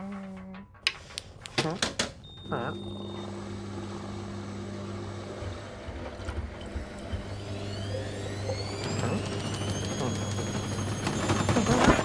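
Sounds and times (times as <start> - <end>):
washing machine motor hum: 2.2 - 12.0.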